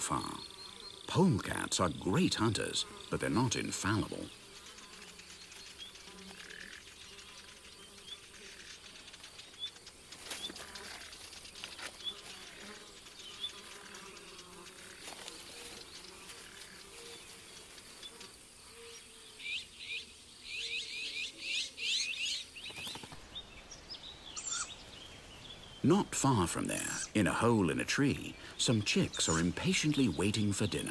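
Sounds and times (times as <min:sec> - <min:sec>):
insects buzzing and chirping: 0:00.0 - 0:30.9.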